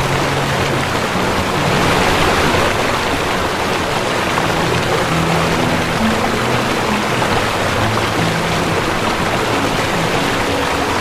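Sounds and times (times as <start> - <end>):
soft low music notes: 0.0 - 11.0
waterfall rushing: 0.0 - 11.0.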